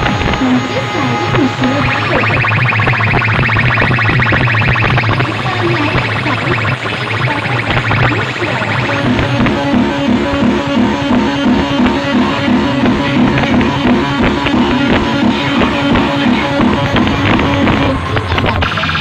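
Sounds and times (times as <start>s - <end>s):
loud music with pulsing bass: 0.0s - 19.0s.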